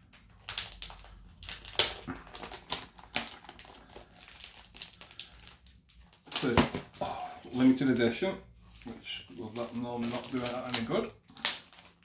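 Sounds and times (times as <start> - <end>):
plastic packaging crinkling: 0.0 - 6.8, 9.0 - 12.0.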